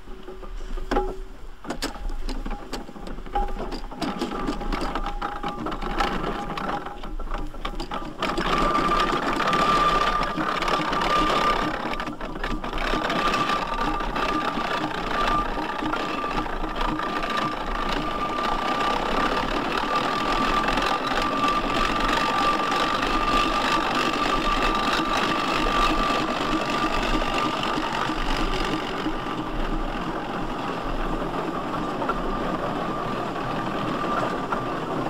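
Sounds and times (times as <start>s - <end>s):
steam engine clattering: 0.0s - 35.0s.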